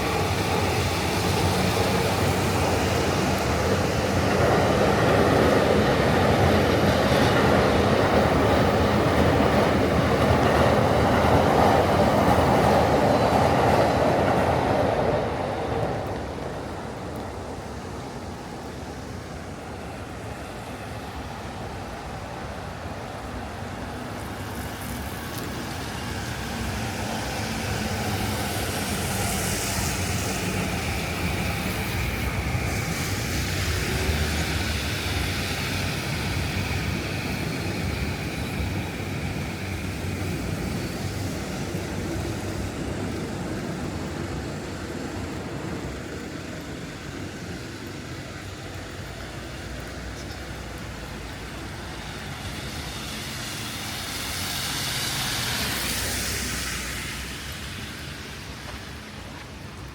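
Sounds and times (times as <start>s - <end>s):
traffic on wet street: 0.0s - 59.9s.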